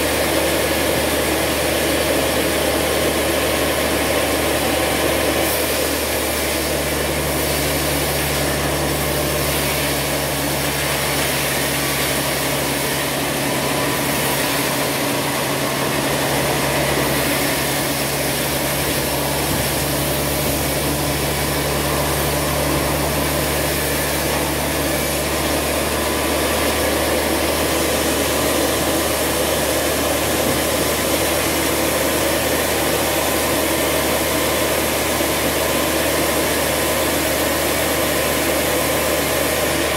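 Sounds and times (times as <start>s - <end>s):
band sawmill machine hum: 0.0s - 39.9s
saw cutting timber: 0.0s - 39.9s.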